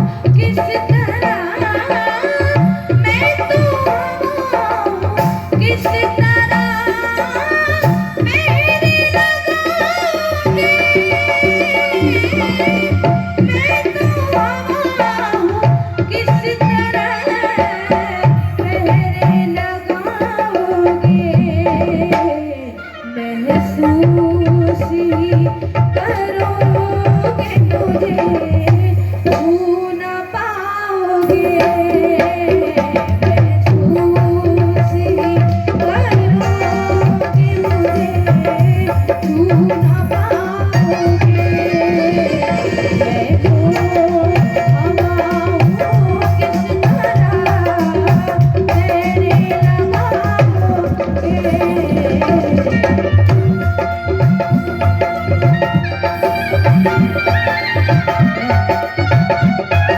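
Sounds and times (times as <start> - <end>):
tabla playing a steady beat: 0.0 - 59.9.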